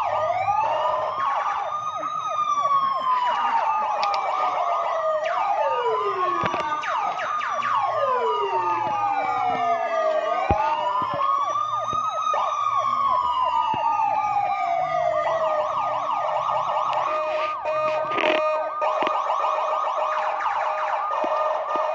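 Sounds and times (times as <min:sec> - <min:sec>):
electronic sirens wailing and yelping: 0:00.0 - 0:21.9.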